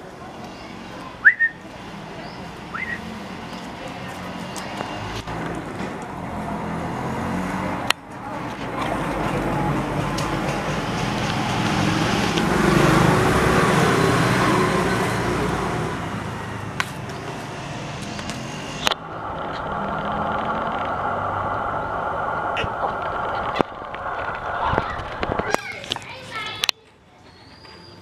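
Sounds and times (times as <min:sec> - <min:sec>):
traffic hum: 0:00.0 - 0:28.0
vehicle passing close by: 0:00.7 - 0:26.0.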